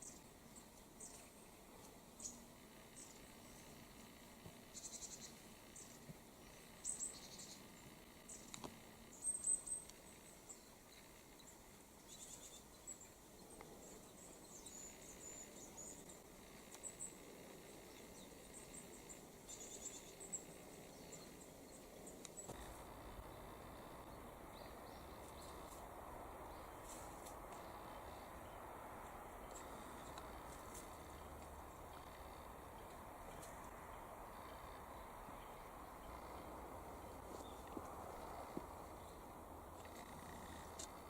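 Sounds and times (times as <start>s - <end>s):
songbirds chirping and trilling: 0.0s - 41.0s.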